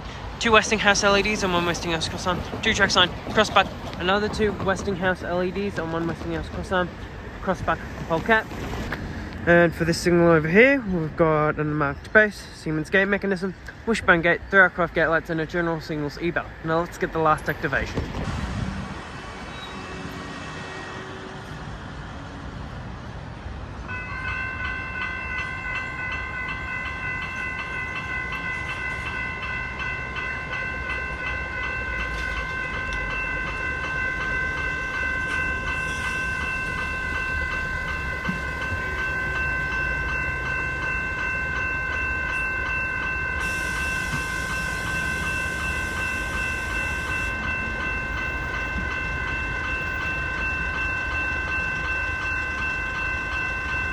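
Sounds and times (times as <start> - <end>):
crossing bell ringing: 0.0 - 17.8, 23.8 - 53.9
train rumbling and wheel clatter: 0.0 - 53.9.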